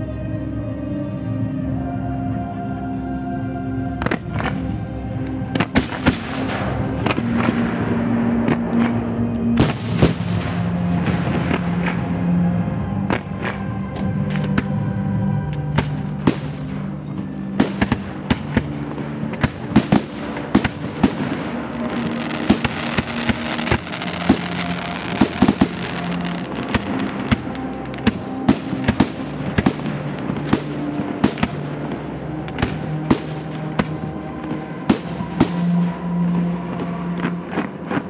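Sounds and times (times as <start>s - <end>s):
music with held notes: 0.0s - 38.0s
fireworks bangs and crackling: 4.0s - 38.0s.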